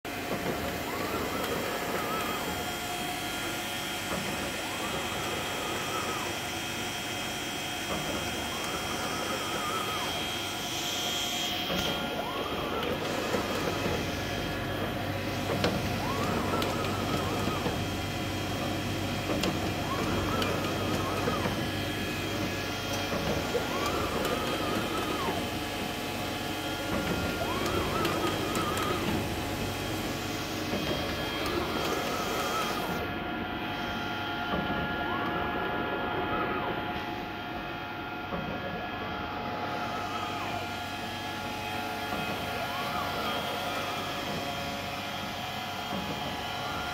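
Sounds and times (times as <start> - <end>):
machine hum: 0.0 - 46.9
rising and falling machine whine: 0.1 - 46.9.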